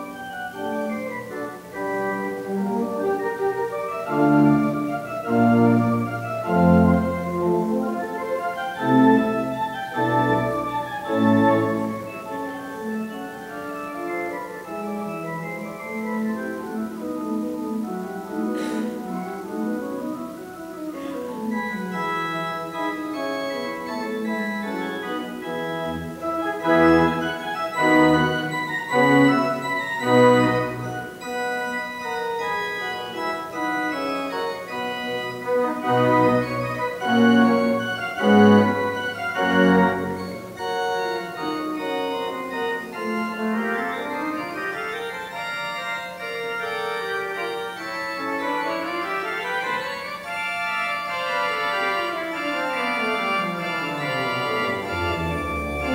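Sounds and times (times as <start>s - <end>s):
pipe organ playing chords: 0.0s - 55.9s.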